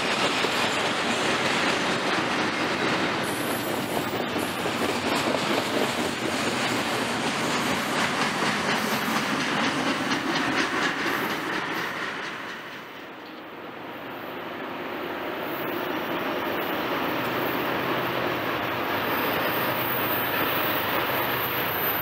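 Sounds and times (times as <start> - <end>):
freight train rumbling past: 0.0 - 22.0
train wheels clicking on rails: 0.0 - 22.0.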